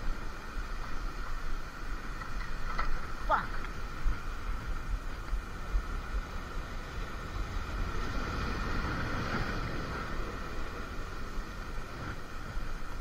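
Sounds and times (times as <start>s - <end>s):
faint steady whine: 0.0s - 13.0s
sea noise: 0.0s - 13.0s
wind buffeting microphone: 0.0s - 13.0s.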